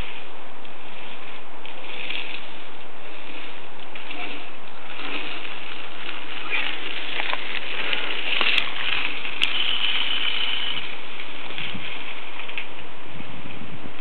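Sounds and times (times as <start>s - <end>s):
bike rolling on gravel: 0.0s - 14.0s.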